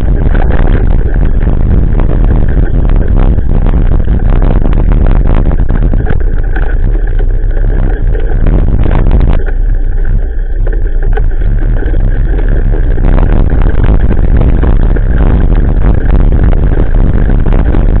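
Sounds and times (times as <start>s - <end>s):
bike rattling over gravel: 0.0s - 18.0s
wind buffeting microphone: 0.0s - 18.0s.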